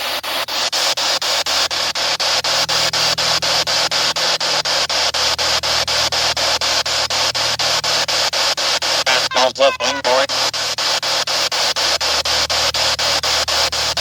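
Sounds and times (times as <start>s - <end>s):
radio static sweeping: 0.0s - 14.0s.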